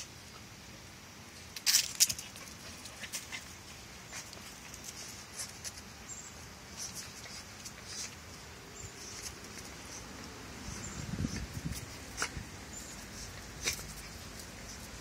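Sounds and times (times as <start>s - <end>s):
puppy claws scrabbling on concrete: 1.4s - 15.0s.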